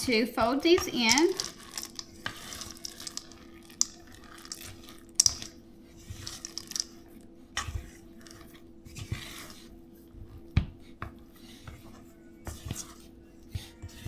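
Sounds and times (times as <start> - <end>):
spatula scraping cookie dough: 0.8 - 9.8, 11.4 - 14.0.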